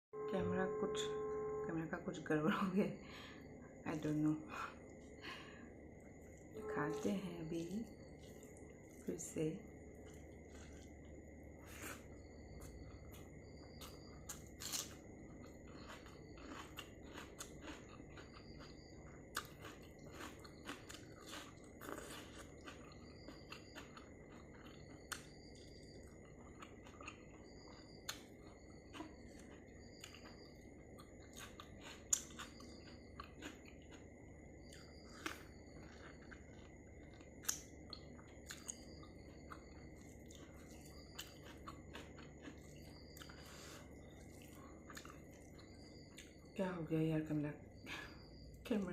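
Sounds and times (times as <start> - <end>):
person chewing food: 4.7 - 46.5.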